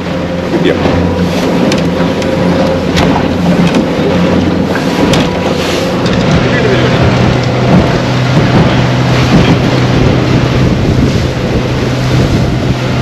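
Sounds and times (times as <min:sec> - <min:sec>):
motorboat engine drone: 0:00.0 - 0:13.0
water rushing off hull: 0:00.0 - 0:13.0
wind buffeting microphone: 0:00.0 - 0:13.0.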